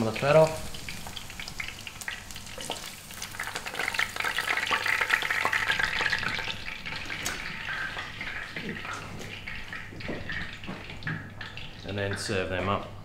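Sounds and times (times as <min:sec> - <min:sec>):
oil sizzling in frying pan: 0:00.0 - 0:12.5.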